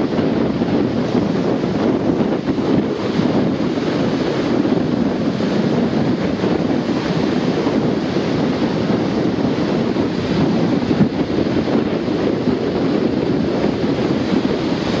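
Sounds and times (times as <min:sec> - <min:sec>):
storm waves breaking on beach: 0:00.0 - 0:15.0
wind buffeting microphone: 0:00.0 - 0:15.0.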